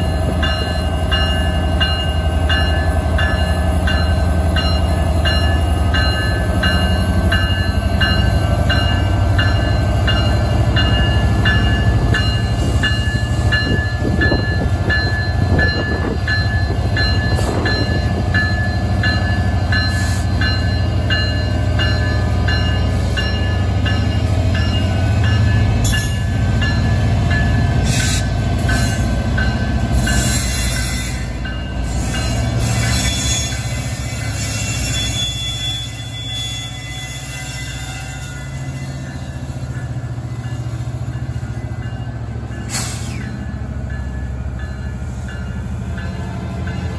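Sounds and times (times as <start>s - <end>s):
locomotive engine rumbling: 0.0s - 46.9s.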